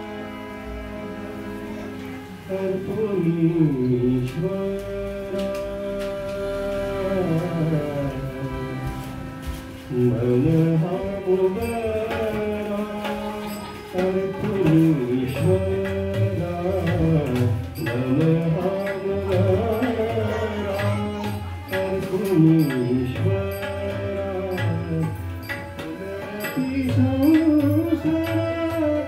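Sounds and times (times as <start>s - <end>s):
harmonium: 0.0s - 29.0s
person singing: 1.6s - 8.6s, 9.9s - 29.0s
hand drums: 4.2s - 29.0s.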